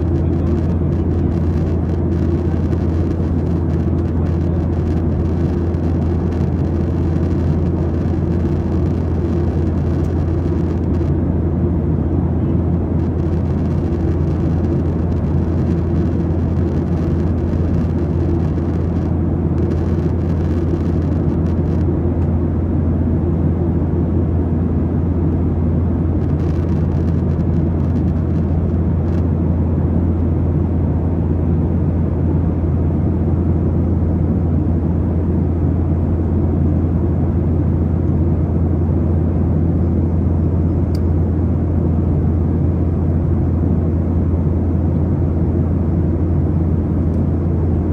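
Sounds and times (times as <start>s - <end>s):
airplane engine drone: 0.0s - 47.9s.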